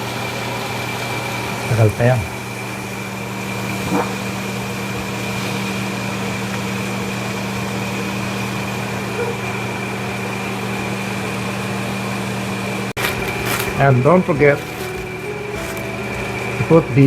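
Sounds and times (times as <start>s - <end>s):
electric motor hum with whine: 0.0s - 17.0s.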